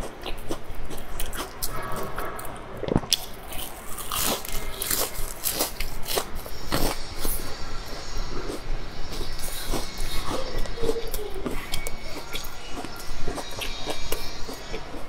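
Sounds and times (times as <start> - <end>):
chewing crunchy pastry: 0.0 - 15.0.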